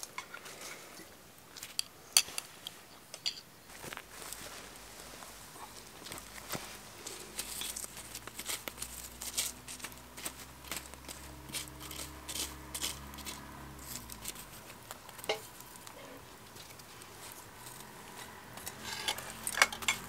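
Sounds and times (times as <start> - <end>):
embers crackling and popping: 0.0 - 20.0.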